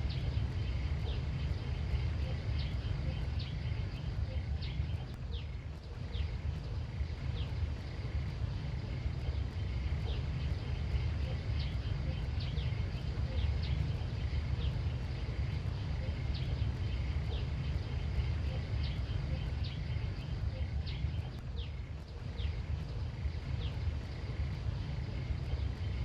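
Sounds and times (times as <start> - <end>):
faint high drone: 0.0 - 26.0
strong low rumble: 0.0 - 26.0.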